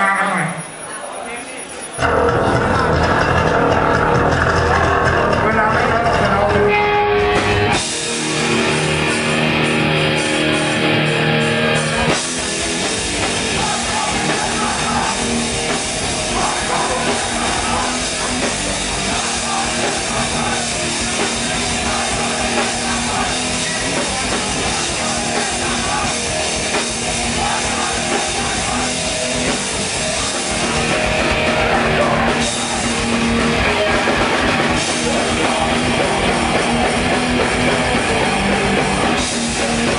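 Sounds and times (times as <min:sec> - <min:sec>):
punk band playing live: 0:02.0 - 0:39.9.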